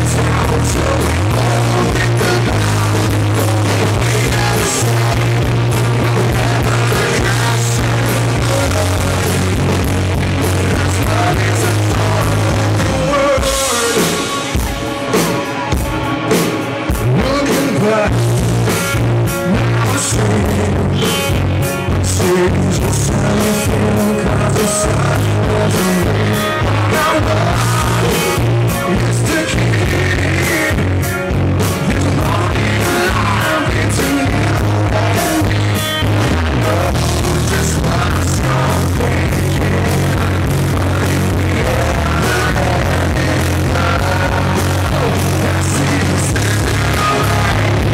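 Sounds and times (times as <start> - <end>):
man singing: 0.0 - 15.8, 17.0 - 47.9
distorted electric guitar: 0.0 - 47.9
live rock band playing: 0.0 - 47.9.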